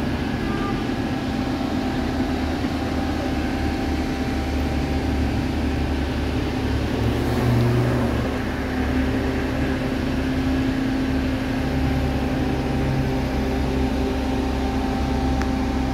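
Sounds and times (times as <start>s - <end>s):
diesel engine droning: 0.0s - 15.9s.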